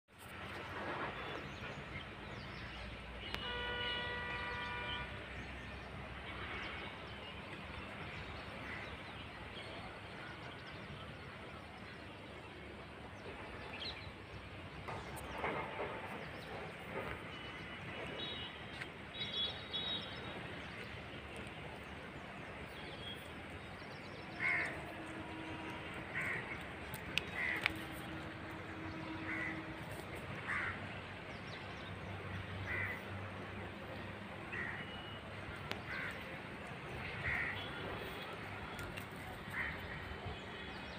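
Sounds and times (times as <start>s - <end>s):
outdoor background noise: 0.1s - 40.9s.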